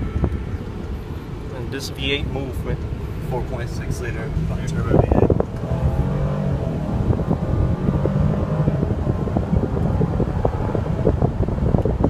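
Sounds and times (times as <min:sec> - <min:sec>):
engine and road rumble: 0:00.0 - 0:12.0
wind noise on microphone: 0:00.0 - 0:12.0.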